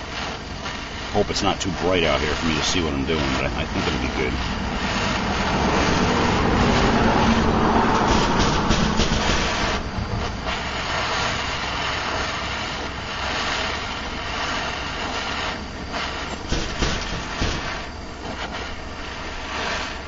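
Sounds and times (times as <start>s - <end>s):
gas torch flame hissing: 0.0s - 20.0s.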